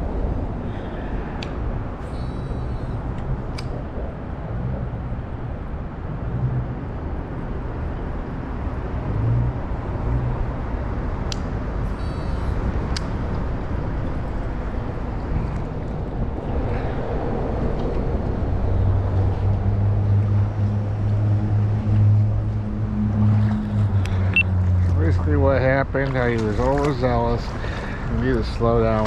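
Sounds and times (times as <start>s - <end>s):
low rumble of road traffic: 0.0s - 29.0s
passing engine hums: 0.0s - 29.0s.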